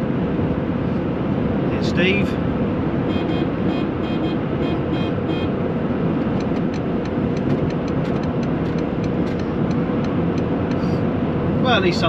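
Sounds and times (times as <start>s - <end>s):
passing lorry: 0.0s - 12.0s
road and engine rumble in cab: 0.0s - 12.0s.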